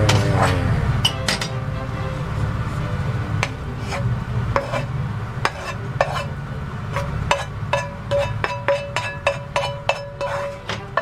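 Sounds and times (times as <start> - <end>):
spatula scraping skillet: 0.0 - 11.0.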